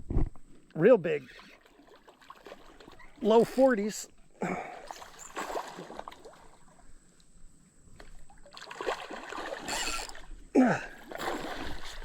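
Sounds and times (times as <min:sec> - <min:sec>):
creek water sloshing and trickling: 0:01.1 - 0:12.0
light water splashes: 0:01.3 - 0:07.0, 0:07.9 - 0:12.0.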